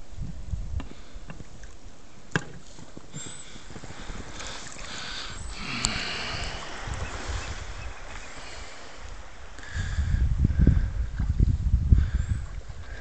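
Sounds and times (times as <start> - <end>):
wind rumble on microphone: 0.0 - 2.0, 2.9 - 13.0
small waves lapping: 0.9 - 13.0.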